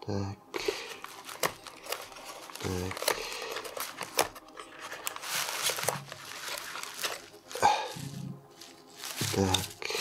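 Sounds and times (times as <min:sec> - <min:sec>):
packaging rustling: 0:00.6 - 0:10.0.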